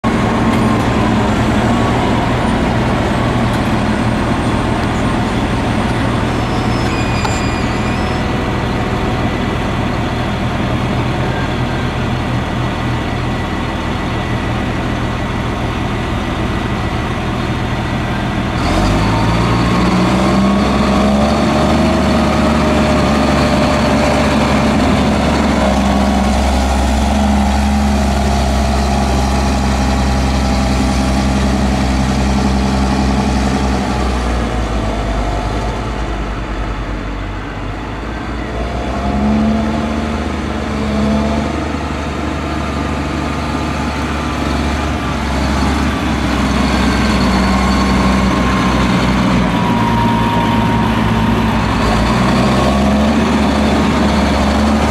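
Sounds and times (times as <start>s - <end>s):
tractor diesel engines running: 0.0s - 54.9s.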